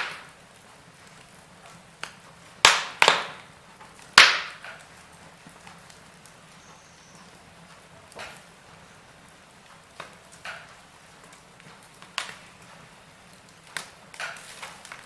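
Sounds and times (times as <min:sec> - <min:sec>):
faint steady hiss: 0:00.0 - 0:15.0
wood fire crackling and popping: 0:00.0 - 0:15.0.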